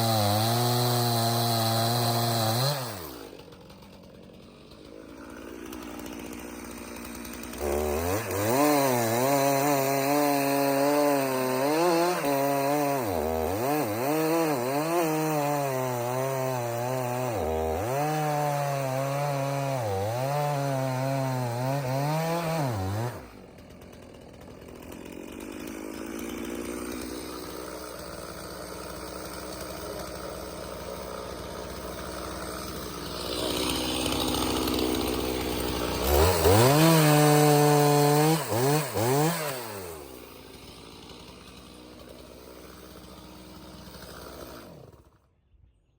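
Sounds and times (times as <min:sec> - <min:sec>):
chainsaw cutting through log: 0:00.0 - 0:45.4.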